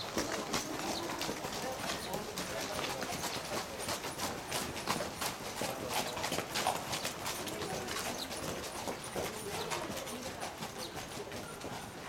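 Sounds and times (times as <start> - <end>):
horse hoofbeats clip-clopping: 0.0 - 12.0.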